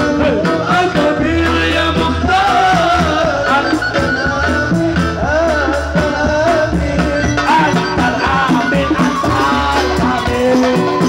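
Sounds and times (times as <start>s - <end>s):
devotional singing: 0.0s - 11.0s
hand percussion: 0.0s - 11.0s
steady bass: 0.0s - 11.0s.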